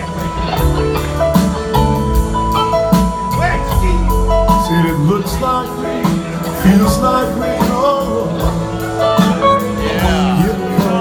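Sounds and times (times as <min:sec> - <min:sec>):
electric guitars bending notes: 0:00.0 - 0:11.0
live rock band playing: 0:00.0 - 0:11.0.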